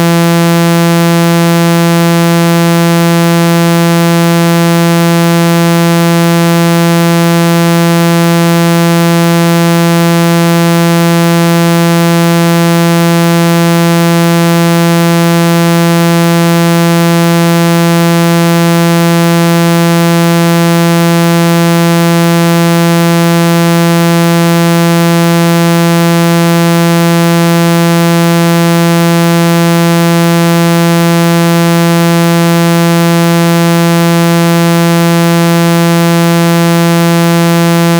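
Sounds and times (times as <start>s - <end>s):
low buzzing electronic tone: 0.0s - 37.9s.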